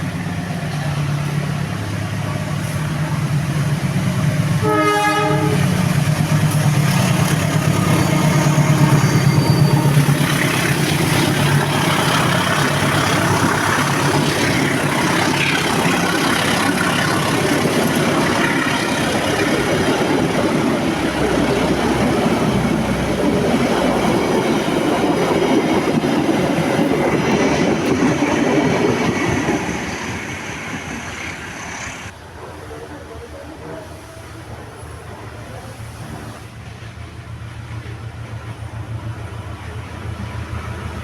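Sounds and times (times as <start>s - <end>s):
train wagons rumbling and rattling: 0.0s - 41.0s.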